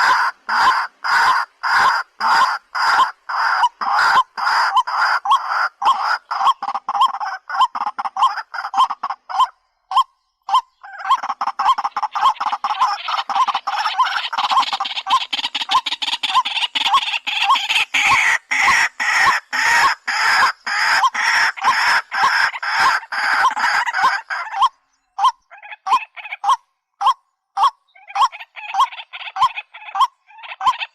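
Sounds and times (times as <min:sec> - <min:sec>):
waterhen calling: 0:00.0 - 0:30.9.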